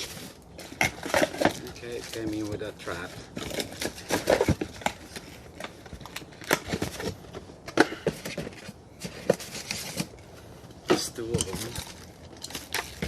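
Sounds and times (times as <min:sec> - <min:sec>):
clicks and knocks of handled parts: 0:00.0 - 0:13.0.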